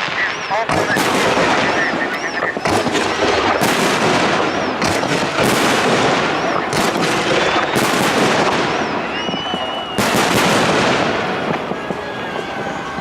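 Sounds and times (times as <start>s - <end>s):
firework shells bursting: 0.0s - 12.0s
fireworks crackling: 0.0s - 13.0s.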